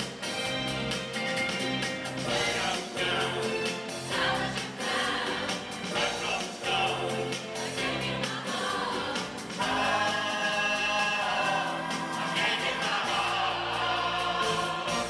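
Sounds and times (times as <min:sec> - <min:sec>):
band with steady beat: 0:00.0 - 0:15.0
choir singing pop song: 0:02.0 - 0:15.0.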